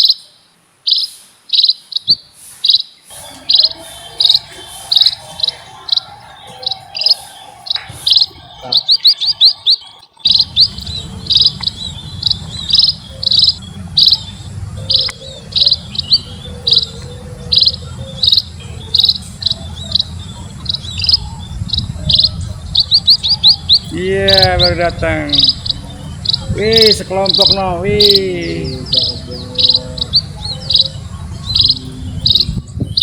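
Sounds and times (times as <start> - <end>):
small birds chirping: 0.0 - 33.0
low rumble: 3.1 - 33.0.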